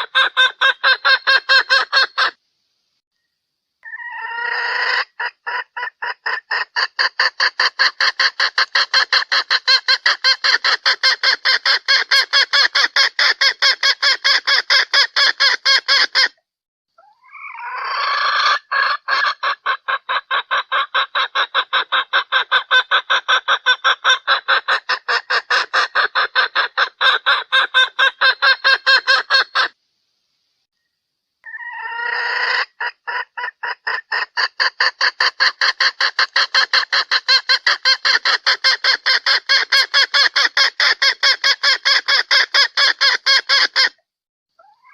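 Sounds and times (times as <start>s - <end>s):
hen clucking call: 0.0s - 2.4s, 3.8s - 16.4s, 17.0s - 29.8s, 31.4s - 44.0s, 44.6s - 44.9s.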